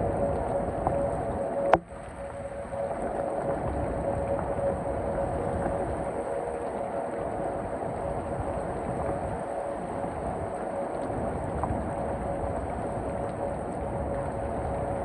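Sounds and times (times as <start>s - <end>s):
faint steady tone: 0.0s - 15.0s
heavy rain: 0.0s - 15.0s
wind: 0.0s - 15.0s.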